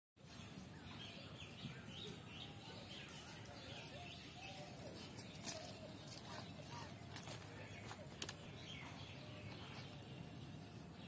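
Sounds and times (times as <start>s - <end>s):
faint birds chirping: 0.2s - 11.0s.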